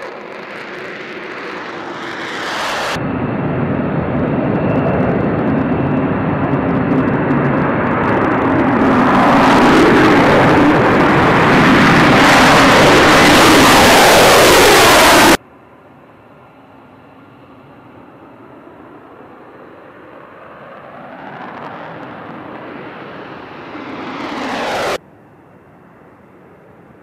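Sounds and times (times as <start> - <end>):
jet engine afterburner roar: 0.0 - 15.4, 18.8 - 25.0
distant jet engine noise: 0.0 - 27.0.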